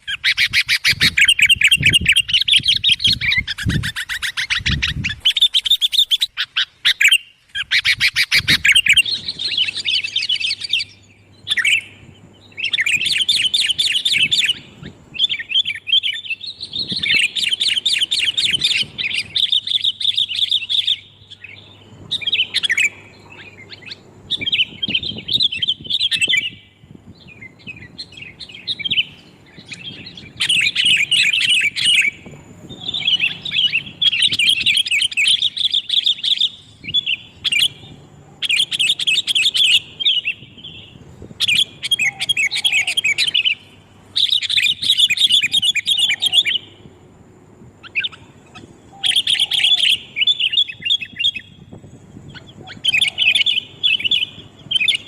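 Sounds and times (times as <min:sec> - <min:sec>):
birds chattering calls: 0:00.0 - 0:55.0.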